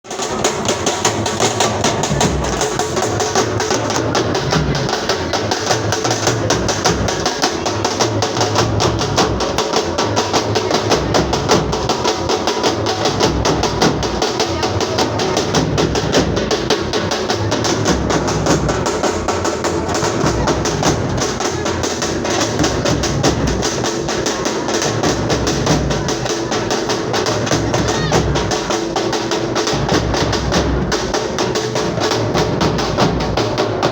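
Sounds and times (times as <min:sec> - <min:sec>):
music with fast drumming: 0:00.0 - 0:33.9.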